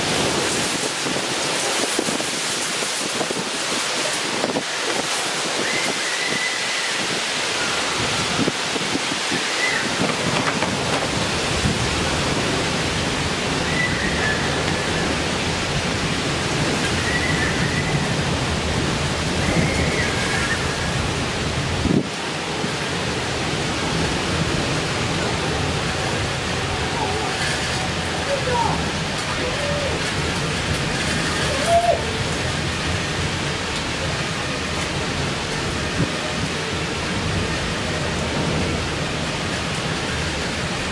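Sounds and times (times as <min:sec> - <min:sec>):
gusting storm wind: 0:00.0 - 0:40.9
heavy rain: 0:00.0 - 0:40.9.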